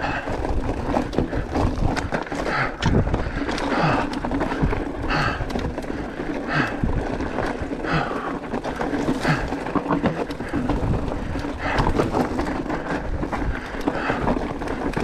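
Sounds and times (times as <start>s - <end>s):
bike rattling and knocking: 0.0s - 15.0s
tyres crunching on stones: 0.0s - 15.0s.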